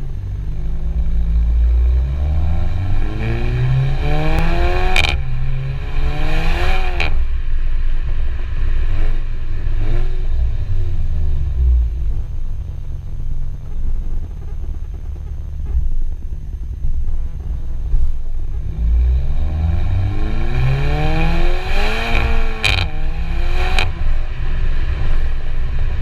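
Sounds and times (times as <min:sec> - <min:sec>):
car engine revving: 0:00.0 - 0:26.0
exhaust crack: 0:00.0 - 0:26.0
low exhaust rumble: 0:00.0 - 0:26.0.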